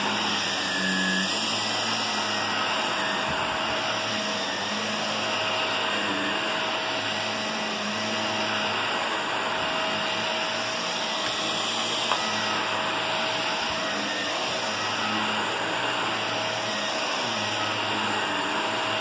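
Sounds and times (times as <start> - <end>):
vacuum cleaner running on carpet: 0.0 - 19.0.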